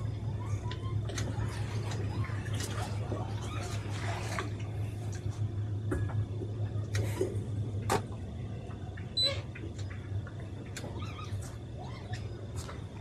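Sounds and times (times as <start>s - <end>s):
outboard motors idling: 0.0s - 13.0s.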